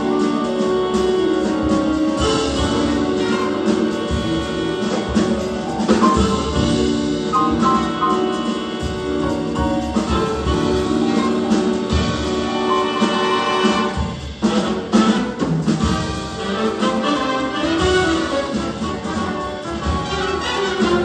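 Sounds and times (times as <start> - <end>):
big band jazz playing live: 0.0 - 21.0.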